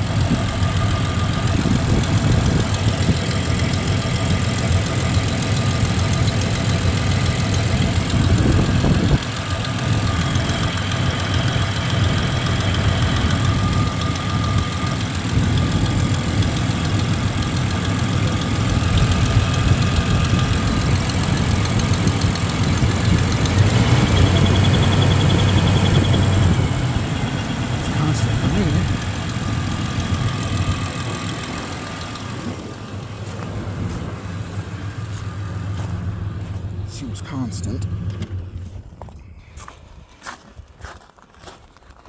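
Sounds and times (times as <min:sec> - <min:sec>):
car engine idling with misfire: 0:00.0 - 0:39.7.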